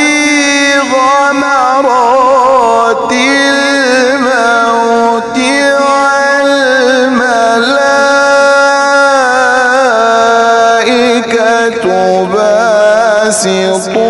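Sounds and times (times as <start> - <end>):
man chanting recitation: 0.0 - 14.0.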